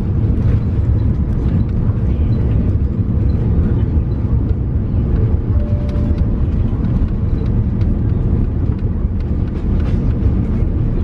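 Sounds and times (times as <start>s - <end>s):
airliner engines and wheels rumbling: 0.0s - 11.0s.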